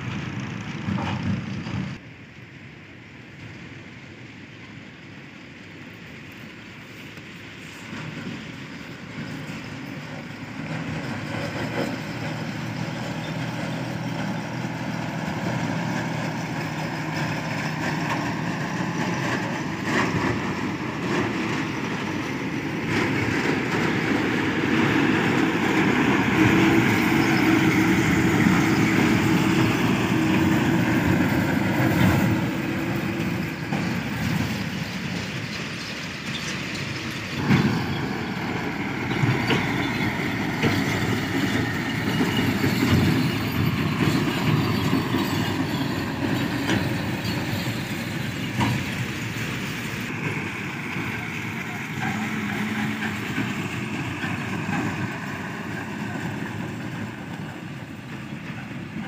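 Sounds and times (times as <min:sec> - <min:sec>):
dump truck diesel engine: 0:00.0 - 0:59.0.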